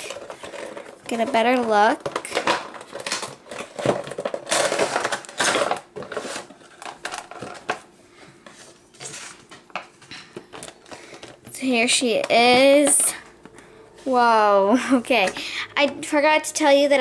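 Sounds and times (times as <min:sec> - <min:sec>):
cardboard and plastic rustling: 0:00.0 - 0:14.2.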